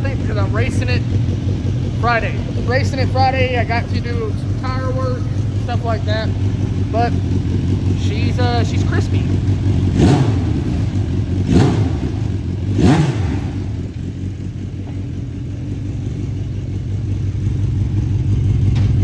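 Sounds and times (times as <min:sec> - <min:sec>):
race car engine revving and idling: 0:00.0 - 0:19.0.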